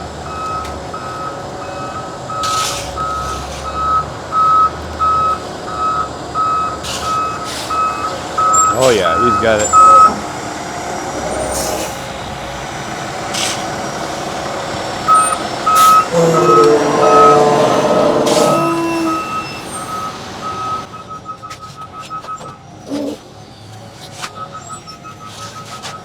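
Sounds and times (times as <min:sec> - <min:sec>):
truck engine running: 0:00.0 - 0:21.2
truck backup alarm beeping: 0:00.0 - 0:23.4, 0:24.2 - 0:26.0.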